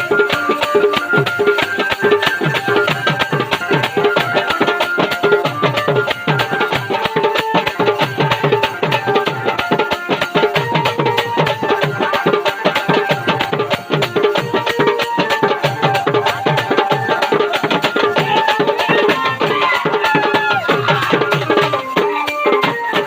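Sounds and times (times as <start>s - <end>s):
hand drum dance rhythm: 0.0s - 23.0s.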